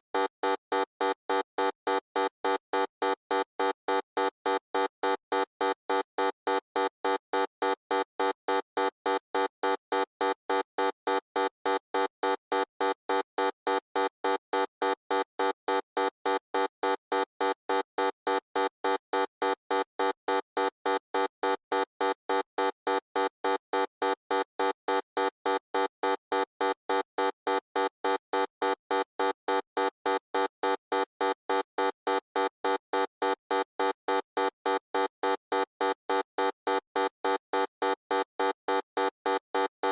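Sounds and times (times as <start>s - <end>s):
electronic buzzer beeping: 0.2s - 39.9s.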